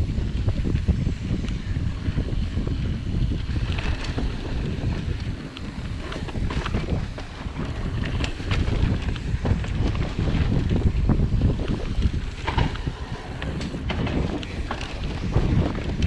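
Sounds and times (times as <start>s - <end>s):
bike rattling and clicking: 0.0s - 16.0s
bike tyre noise: 0.0s - 16.0s
wind rumbling on microphone: 0.0s - 16.0s.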